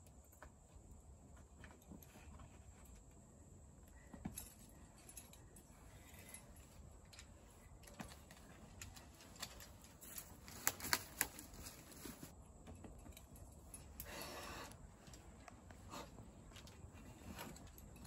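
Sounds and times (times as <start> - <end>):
metal climbing gear clinking: 1.4 - 18.0.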